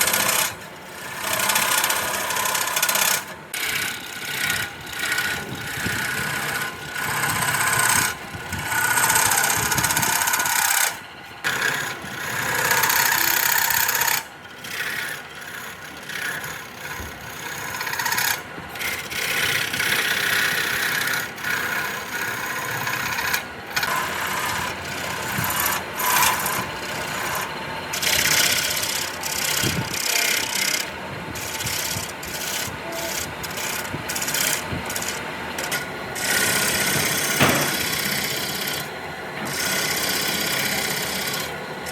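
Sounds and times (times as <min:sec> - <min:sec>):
rasping on wood: 0:00.0 - 0:10.9, 0:11.5 - 0:41.9.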